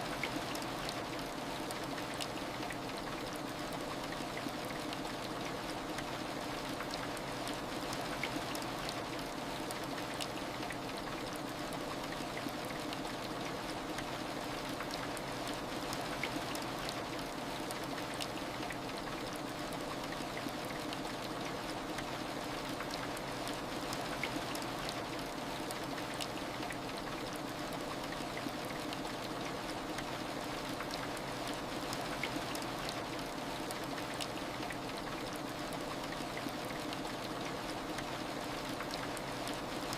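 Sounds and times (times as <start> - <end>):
raindrops pattering: 0.1 - 39.9.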